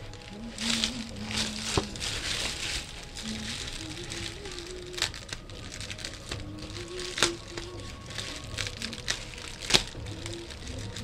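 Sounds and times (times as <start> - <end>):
bubble wrap cracks: 0.0 - 11.0
bubble wrap crinkling: 0.0 - 11.0.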